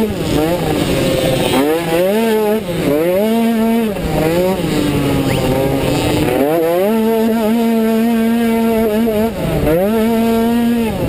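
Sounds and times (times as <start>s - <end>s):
small scooter engine racing: 0.0s - 11.0s.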